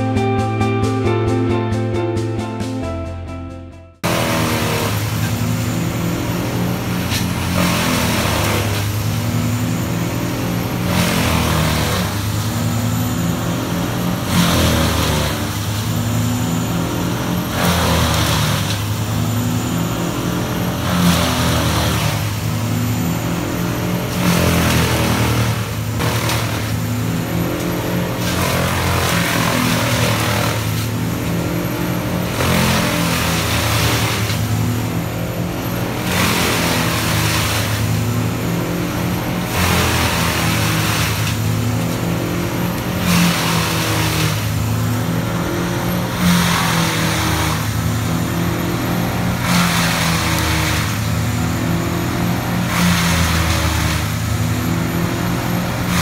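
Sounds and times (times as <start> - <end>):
wood chipper engine hum: 0.0 - 56.0
branches grinding in chipper: 4.0 - 56.0.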